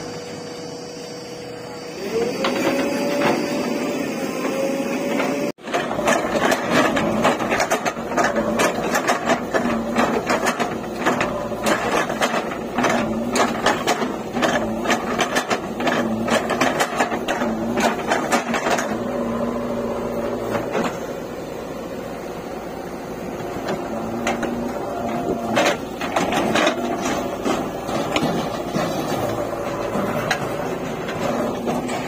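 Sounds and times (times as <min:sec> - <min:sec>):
diesel engine under load: 0:00.0 - 0:32.0
hydraulic hum: 0:00.0 - 0:32.0.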